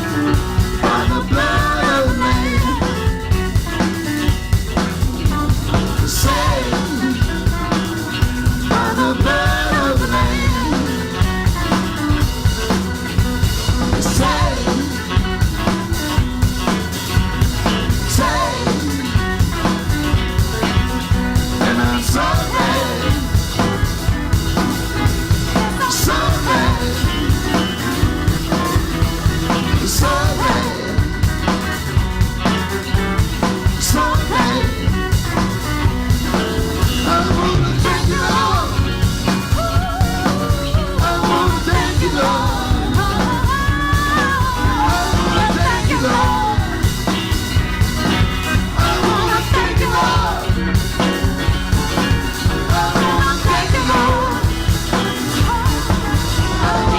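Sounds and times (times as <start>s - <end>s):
melodic lead line: 0.0s - 56.9s
rock band playing: 0.0s - 56.9s.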